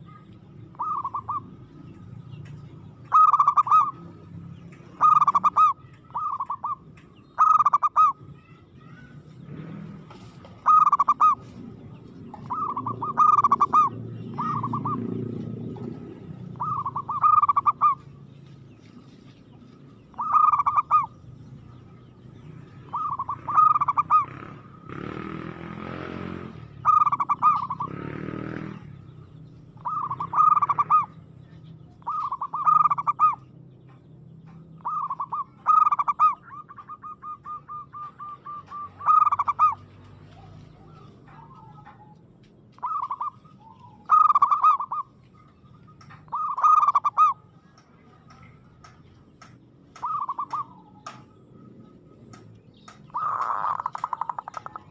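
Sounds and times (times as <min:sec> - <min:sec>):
dove cooing: 0:00.0 - 0:18.2, 0:20.1 - 0:21.4, 0:22.8 - 0:33.5, 0:34.8 - 0:54.9.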